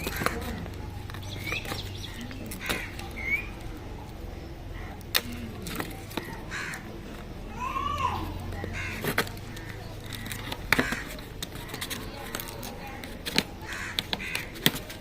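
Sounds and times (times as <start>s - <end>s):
packaging clicks and rustles: 0.0s - 4.2s, 4.8s - 7.4s, 8.4s - 15.0s
bird calling: 0.0s - 5.4s, 6.2s - 13.0s, 13.6s - 14.6s.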